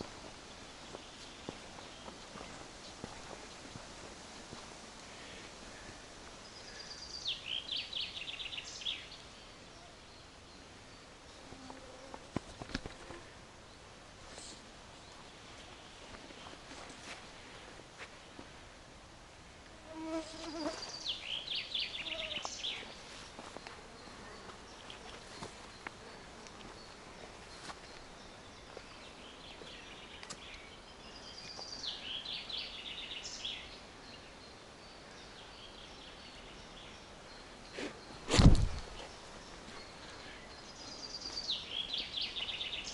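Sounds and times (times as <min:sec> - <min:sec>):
songbird singing: 0:00.0 - 0:18.5, 0:19.9 - 0:42.9.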